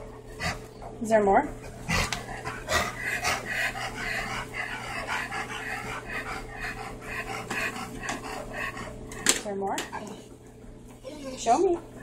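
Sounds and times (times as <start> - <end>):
dogs panting and sniffing: 0.0 - 12.0.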